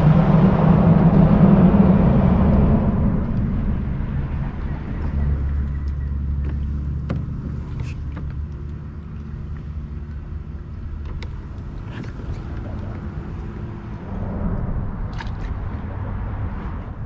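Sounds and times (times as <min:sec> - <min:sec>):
traffic rumble on bridge: 0:00.0 - 0:17.0.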